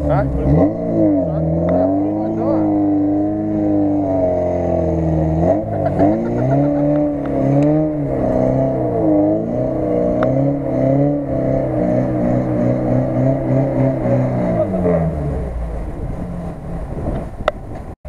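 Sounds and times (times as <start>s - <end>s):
car engine revving in mud: 0.0s - 17.4s.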